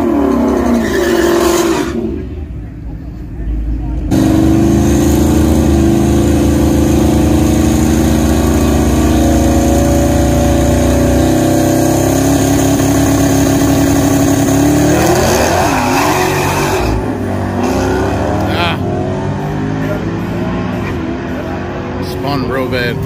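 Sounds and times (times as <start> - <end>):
drag racing engines revving: 0.0 - 23.0.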